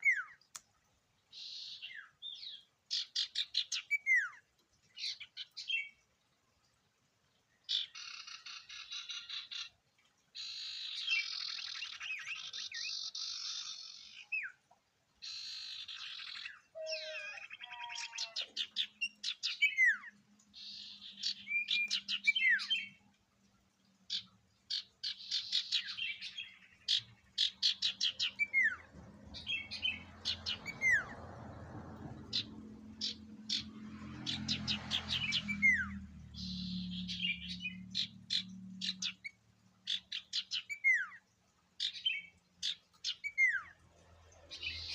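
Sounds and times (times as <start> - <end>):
songbird singing: 0.0 - 0.6, 1.2 - 6.2, 7.5 - 44.9.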